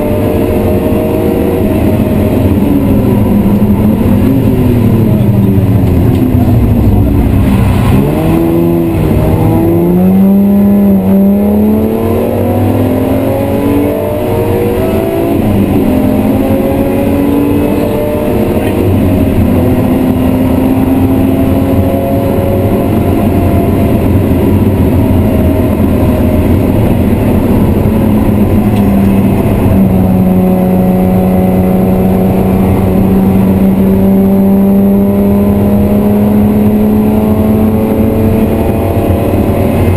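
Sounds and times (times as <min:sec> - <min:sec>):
car engine revving in cabin: 0:00.0 - 0:39.9.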